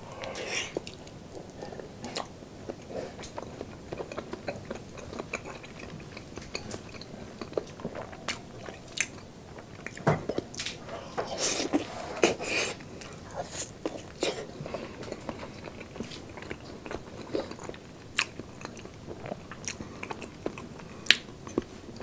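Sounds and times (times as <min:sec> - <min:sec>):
person chewing: 0:00.2 - 0:22.0.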